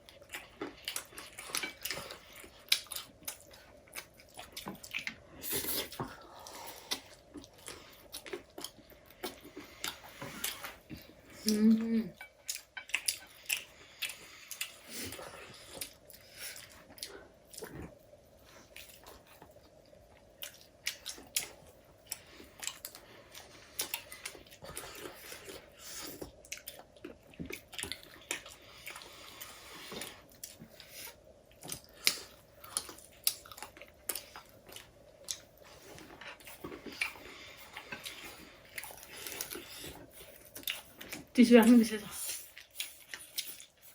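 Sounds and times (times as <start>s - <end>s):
people chewing and crunching: 0.0s - 43.9s.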